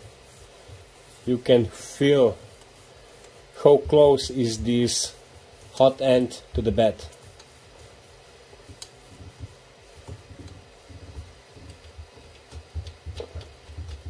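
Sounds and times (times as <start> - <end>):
faint fan hum: 0.0 - 14.0
paper rubbing and light knocks: 0.0 - 14.0.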